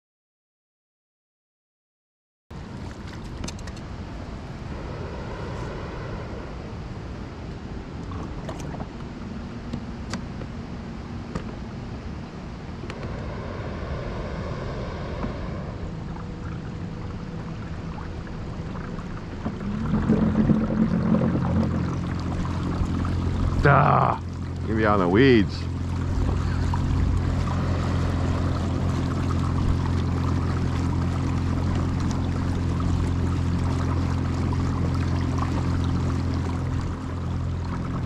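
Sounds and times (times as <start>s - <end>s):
water washing along hull: 2.6s - 38.0s.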